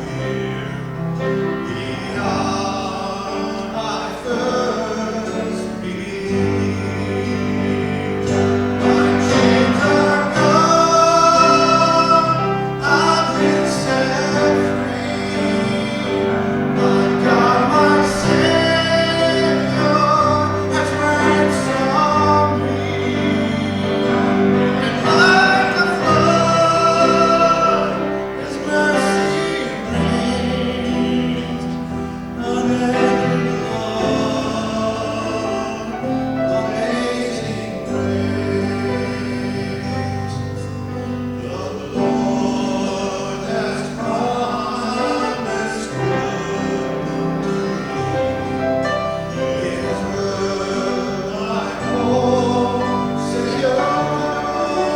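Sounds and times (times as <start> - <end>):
guitar accompaniment: 0.0 - 54.9
person singing worship song: 0.0 - 54.9.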